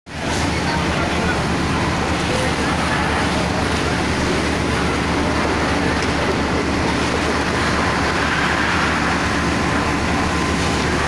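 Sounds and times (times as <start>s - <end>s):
fire truck engine droning: 0.1s - 11.0s
water pump rushing hiss: 0.1s - 11.0s.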